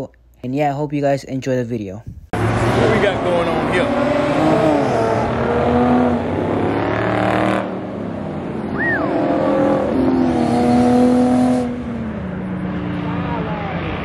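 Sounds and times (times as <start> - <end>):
car engines revving past: 2.4 - 14.0.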